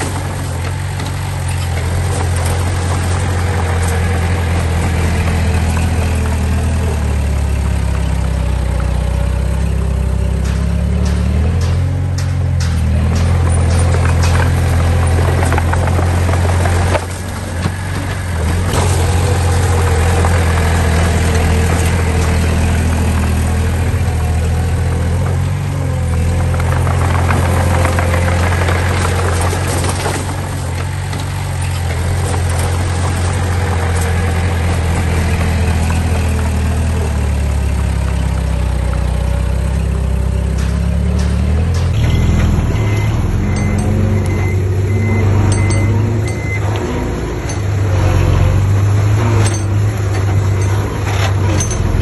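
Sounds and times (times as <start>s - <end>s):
diesel engine running: 0.0s - 52.0s
metal clanks and clatter: 0.0s - 52.0s.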